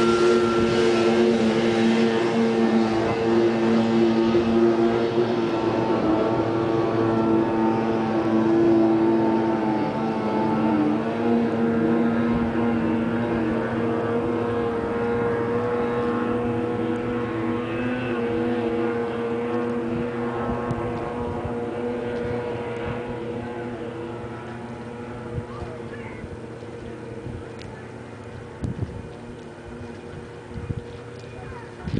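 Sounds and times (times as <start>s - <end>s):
snowmobile engine running: 0.0s - 27.4s.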